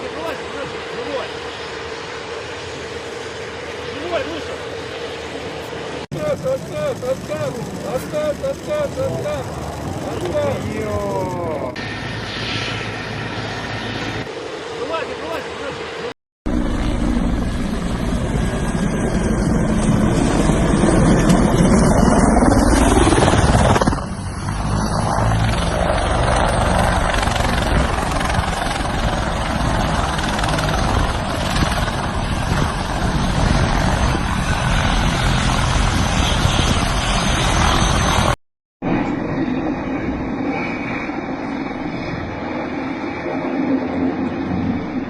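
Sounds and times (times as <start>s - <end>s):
helicopter rotor and engine: 0.0s - 45.0s.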